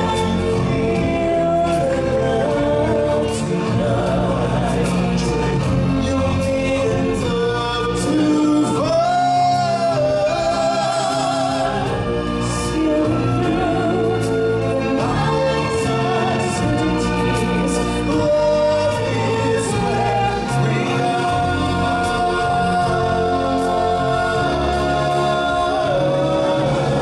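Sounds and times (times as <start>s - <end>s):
choir singing: 0.0s - 27.0s
instrumental accompaniment: 0.0s - 27.0s.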